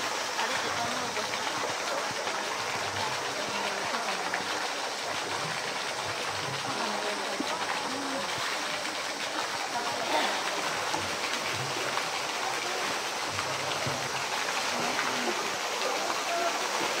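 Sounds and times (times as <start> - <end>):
faint voices: 0.0 - 17.0
running water rushing: 0.0 - 17.0.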